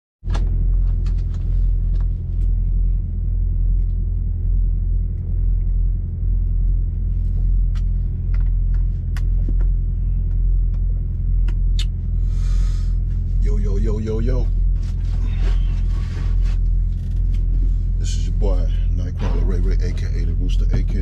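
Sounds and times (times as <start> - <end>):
low pulsing mechanical rumble: 0.2 - 21.0.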